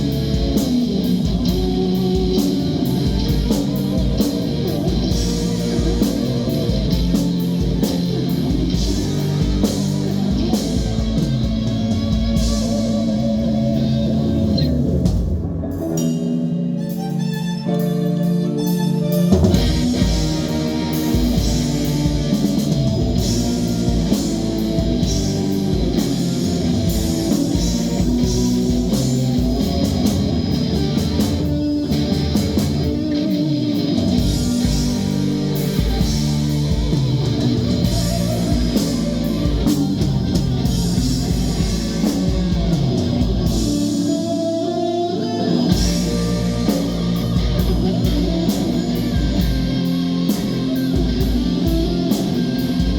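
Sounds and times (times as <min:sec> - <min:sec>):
bass guitar: 0:00.0 - 0:52.9
drum kit: 0:00.0 - 0:52.9
electric guitar: 0:00.0 - 0:52.9.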